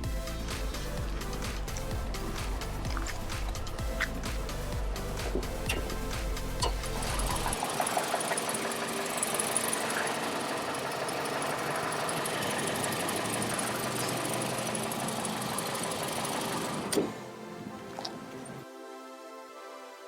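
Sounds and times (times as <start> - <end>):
machine motor running: 0.0 - 18.6.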